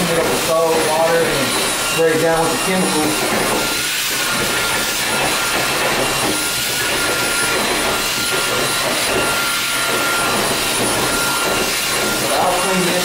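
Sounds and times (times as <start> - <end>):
high whine: 0.0 - 13.0
vacuum motor running: 0.0 - 13.0.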